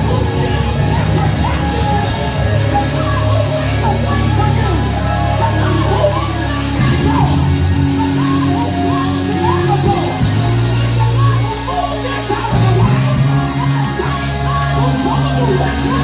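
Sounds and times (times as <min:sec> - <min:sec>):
loud band music: 0:00.0 - 0:16.0.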